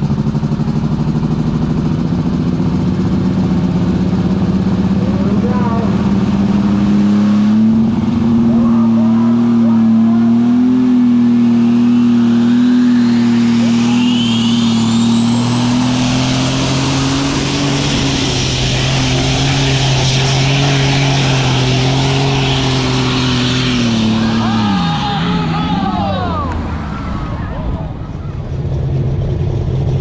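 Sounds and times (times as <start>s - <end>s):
diesel engine at high revs: 0.0s - 30.0s
high turbo whistles: 4.6s - 29.2s.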